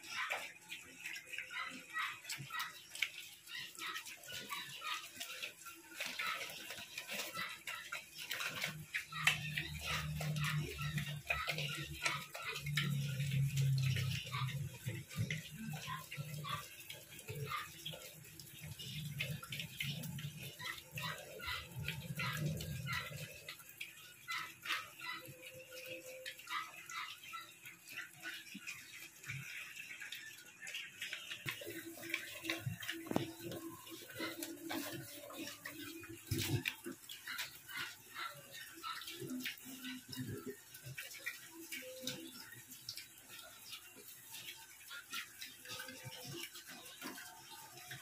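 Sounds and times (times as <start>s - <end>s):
pigs eating wet feed: 0.0s - 48.0s.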